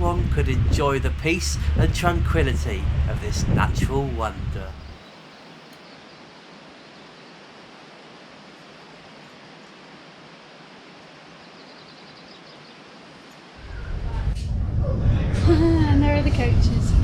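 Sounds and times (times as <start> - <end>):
steady ambient hiss: 0.0 - 14.8.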